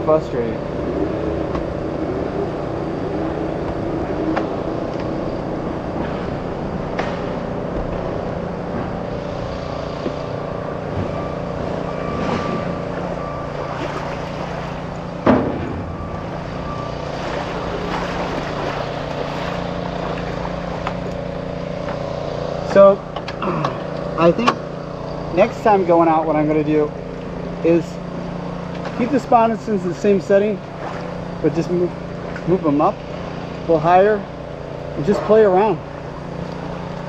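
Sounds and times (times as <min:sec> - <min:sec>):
jet ski engine idling: 0:00.0 - 0:37.0.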